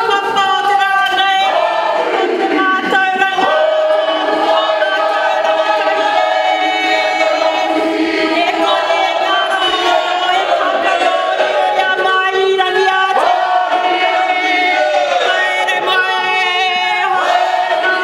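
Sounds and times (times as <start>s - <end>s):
group singing long held notes: 0.0s - 18.0s.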